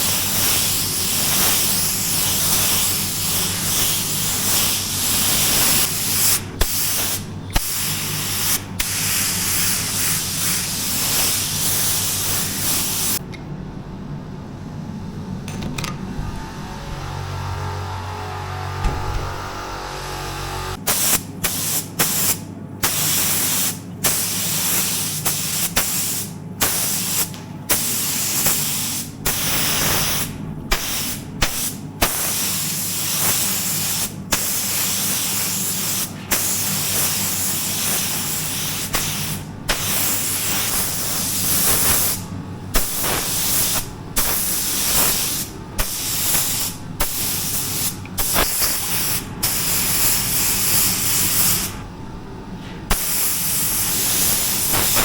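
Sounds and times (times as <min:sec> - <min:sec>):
paint spray gun hissing: 0:00.0 - 0:13.2, 0:20.8 - 0:51.8, 0:52.9 - 0:55.0
steady low hum: 0:00.0 - 0:55.0.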